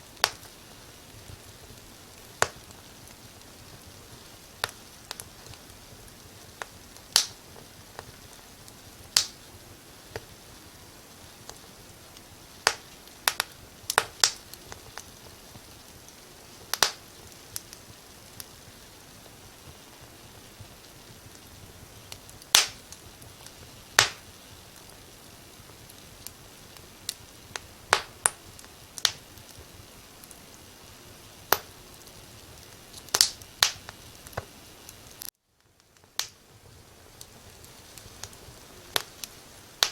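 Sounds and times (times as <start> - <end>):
soft fire hiss: 0.0 - 39.9
wood fire crackling and popping: 0.0 - 39.9.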